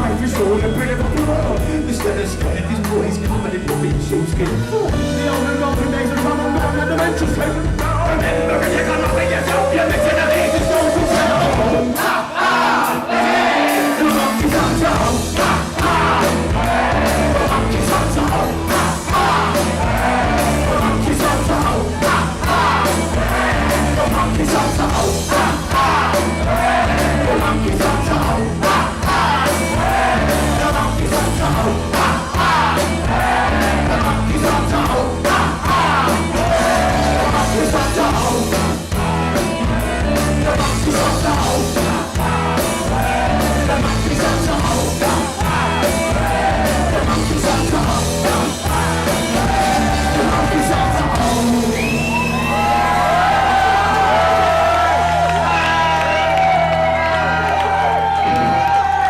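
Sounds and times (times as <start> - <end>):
person singing: 0.0 - 12.3, 12.9 - 57.4
live rock band playing: 0.0 - 59.0.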